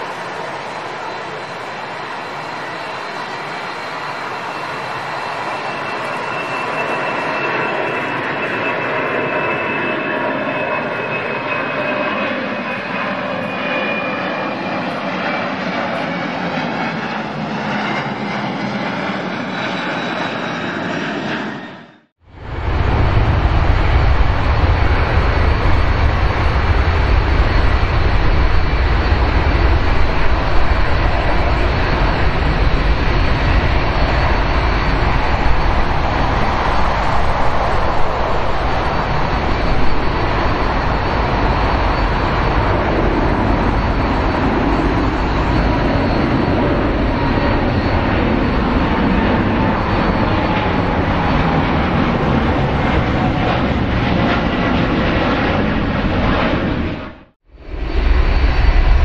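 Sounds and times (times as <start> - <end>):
jet engines deep rumble: 0.0 - 59.0.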